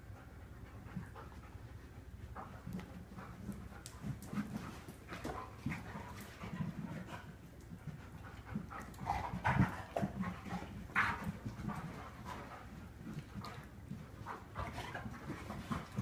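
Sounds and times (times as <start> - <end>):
dog panting and snuffling: 0.0 - 16.0.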